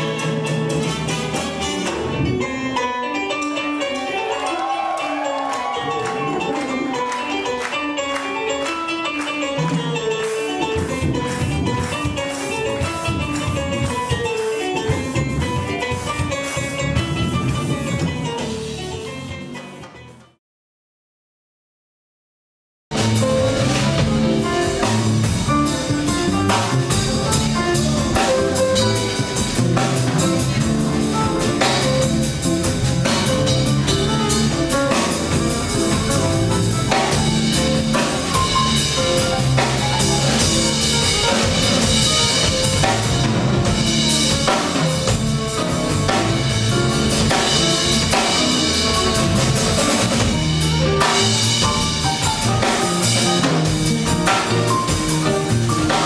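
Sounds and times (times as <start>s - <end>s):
acoustic piano: 0.0s - 20.2s, 23.0s - 56.0s
drum kit: 0.0s - 20.4s, 22.9s - 56.0s.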